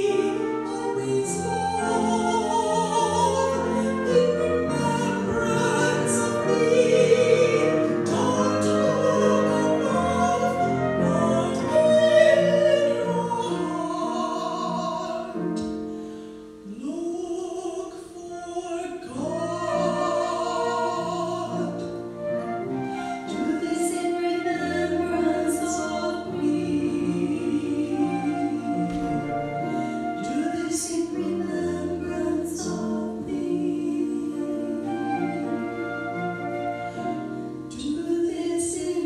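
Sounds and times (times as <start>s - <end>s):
flute: 0.0s - 15.9s, 19.1s - 39.0s
piano: 0.0s - 39.0s
women singing classical duet: 0.0s - 39.0s.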